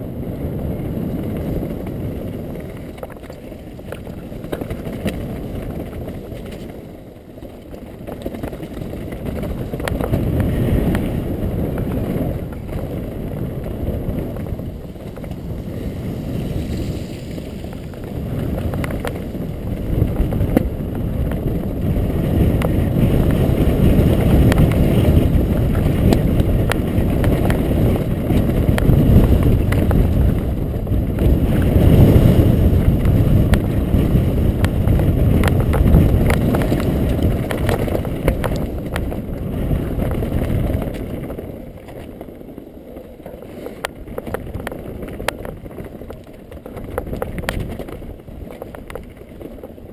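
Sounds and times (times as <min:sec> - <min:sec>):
tyres rumbling on loose stones: 0:00.0 - 0:49.9
wind buffeting microphone: 0:00.0 - 0:49.9
bike rattling over rocks: 0:00.4 - 0:49.9.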